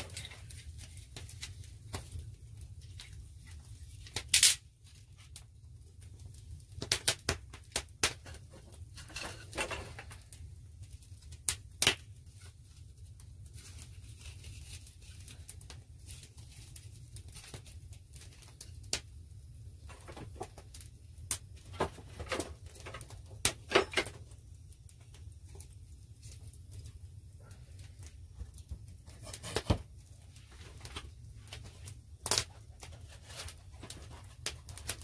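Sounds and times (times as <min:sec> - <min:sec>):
sharp pops from burning wood: 0:00.0 - 0:27.1, 0:27.8 - 0:35.0
campfire crackling: 0:00.0 - 0:35.0.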